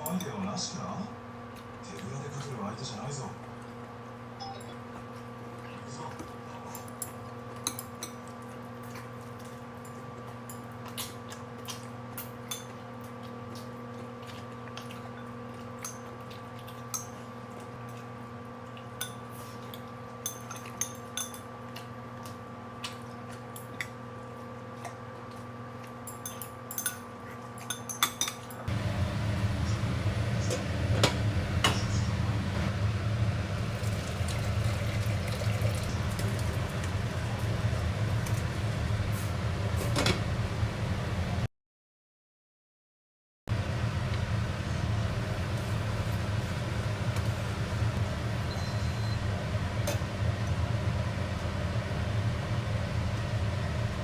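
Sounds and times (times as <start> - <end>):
steady electric hum: 0.0 - 41.5, 43.5 - 54.0.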